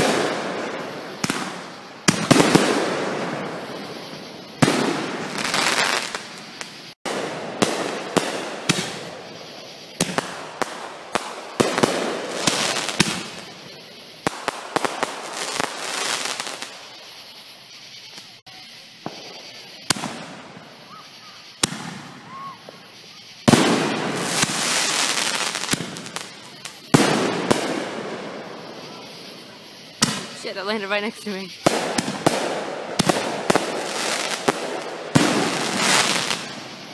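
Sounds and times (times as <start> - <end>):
fireworks bangs: 0.0 - 36.9
fireworks crackle: 0.0 - 36.9.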